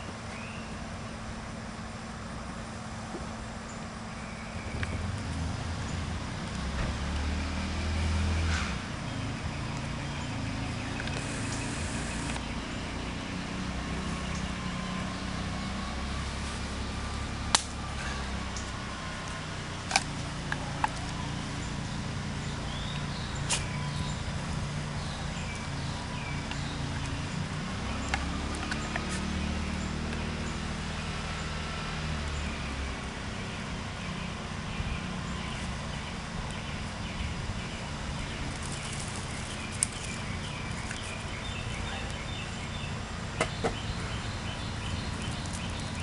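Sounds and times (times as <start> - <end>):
low outdoor rumble: 0.0 - 46.0.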